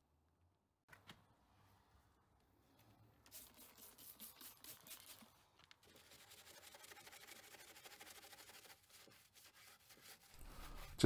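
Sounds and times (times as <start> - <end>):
soft brush scrubbing: 1.6 - 11.0.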